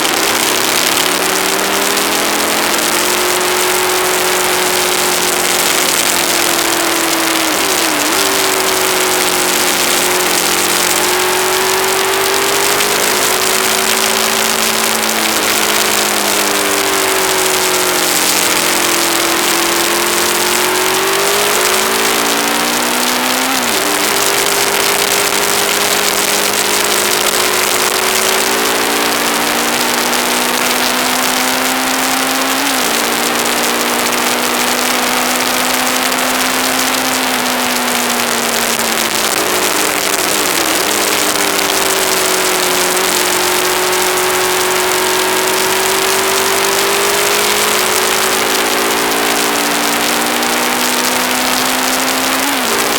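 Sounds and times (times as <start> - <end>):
motorcycle engine shifting gears: 0.0 - 52.9.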